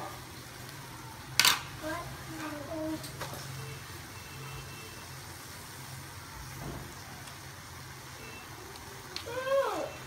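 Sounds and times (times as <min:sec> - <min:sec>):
food sizzling in wok: 0:00.0 - 0:10.0.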